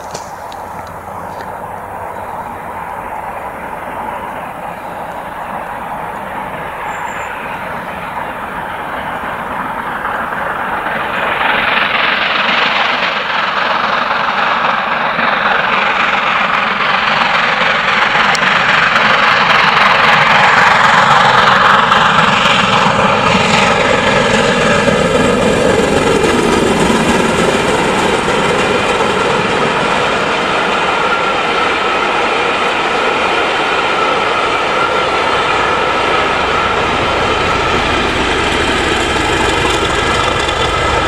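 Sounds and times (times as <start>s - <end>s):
coaches rolling on rails: 0.0s - 41.0s
steam locomotive passing: 0.0s - 41.0s.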